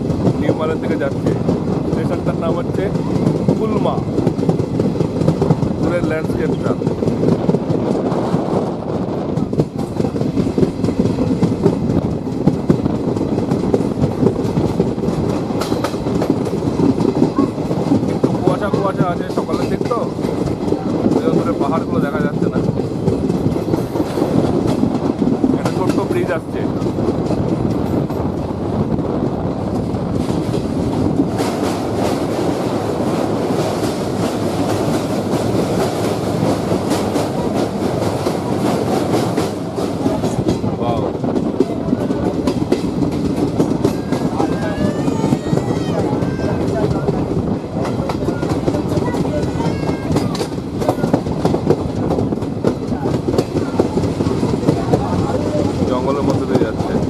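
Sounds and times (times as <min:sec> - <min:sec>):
train rumble: 0:00.0 - 0:57.0
wheels clattering over rails: 0:00.0 - 0:57.0.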